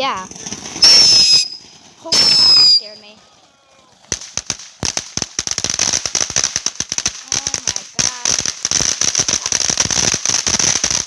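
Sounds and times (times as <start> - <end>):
firework high hiss: 0.0 - 3.0, 4.0 - 11.0
firework crackling pops: 0.0 - 11.0.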